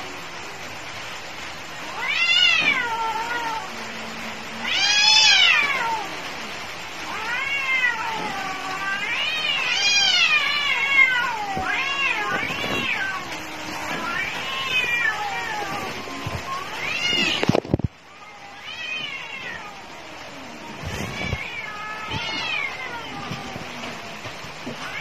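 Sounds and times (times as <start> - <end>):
cats yowling in a fight: 0.0 - 25.0.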